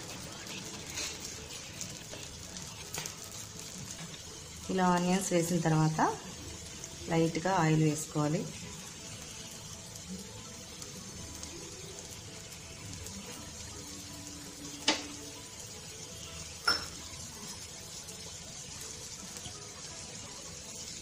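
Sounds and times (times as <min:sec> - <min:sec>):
batter sizzling on griddle: 0:00.0 - 0:21.0.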